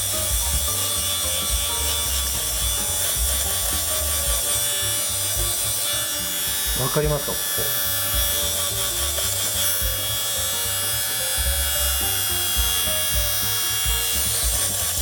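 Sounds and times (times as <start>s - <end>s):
background music with a beat: 0.0s - 7.2s, 8.0s - 15.0s
lint remover motor whine: 0.0s - 15.0s.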